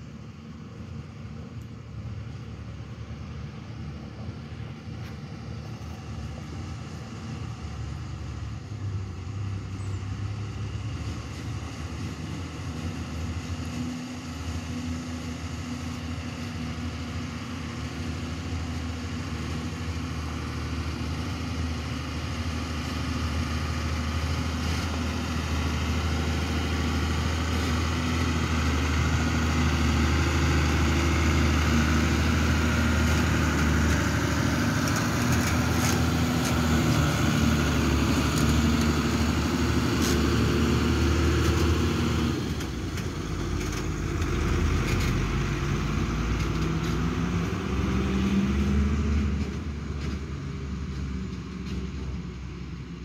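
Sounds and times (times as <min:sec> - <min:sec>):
truck diesel engine running: 0:00.0 - 0:53.0.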